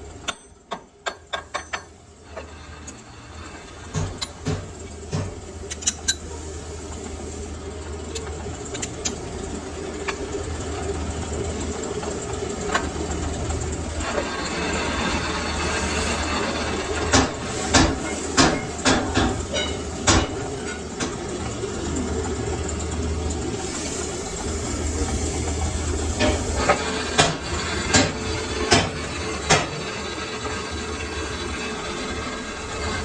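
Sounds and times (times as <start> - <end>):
machinery humming: 2.0 - 33.0.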